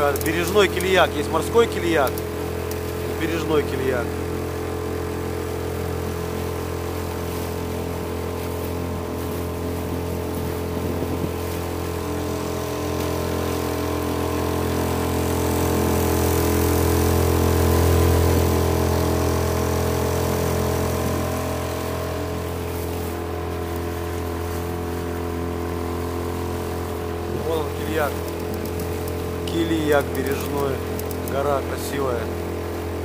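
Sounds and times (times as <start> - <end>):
outboard motor running: 0.0 - 33.0
water rushing: 0.0 - 33.0
wind: 0.0 - 33.0.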